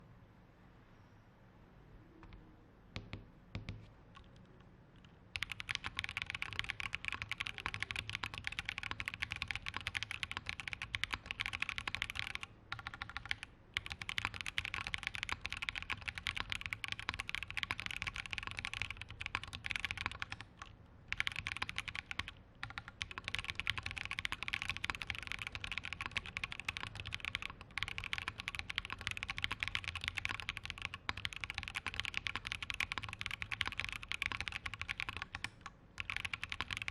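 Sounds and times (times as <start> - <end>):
mechanical keyboard typing: 5.4 - 36.9.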